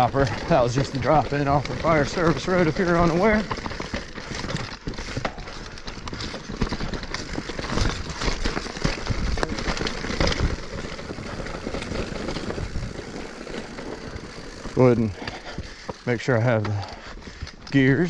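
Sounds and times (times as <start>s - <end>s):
bike clattering and knocking: 0.0s - 18.0s
bike tyres crunching over dirt: 0.0s - 18.0s.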